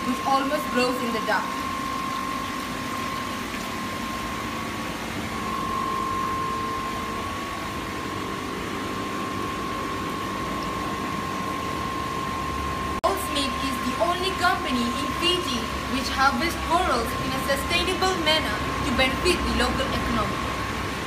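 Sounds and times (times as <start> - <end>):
circulating water: 0.0 - 21.0
constant whine: 0.0 - 21.0
tank pumps humming: 0.0 - 21.0.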